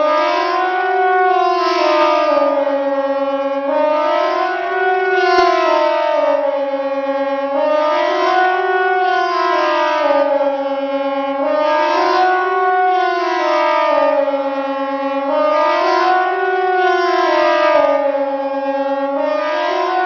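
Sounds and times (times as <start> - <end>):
siren rising and falling: 0.0 - 20.0.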